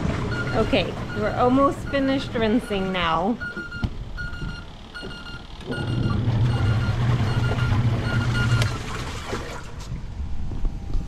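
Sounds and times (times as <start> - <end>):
washing machine beeping: 0.0 - 9.4
washing machine motor hum: 0.0 - 9.9.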